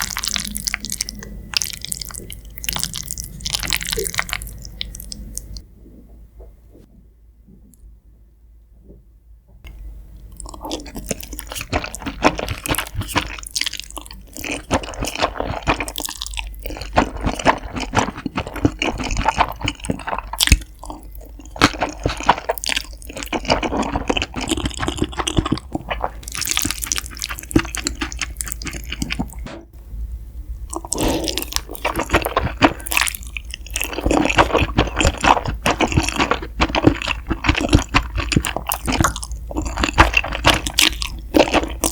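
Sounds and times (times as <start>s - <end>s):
crunchy bites: 0.0s - 5.6s, 10.4s - 29.5s, 30.7s - 41.9s
wet chewing and smacking: 0.0s - 5.6s, 9.7s - 29.5s, 30.7s - 41.9s.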